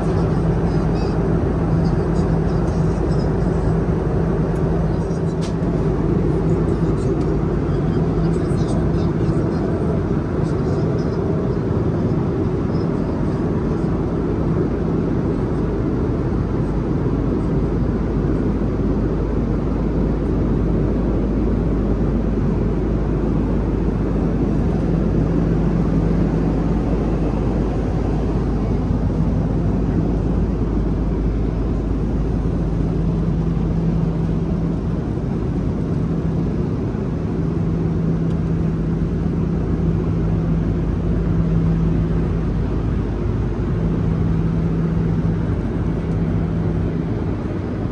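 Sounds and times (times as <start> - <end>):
airliner cabin noise: 0.0 - 47.9
low hum: 0.0 - 47.9.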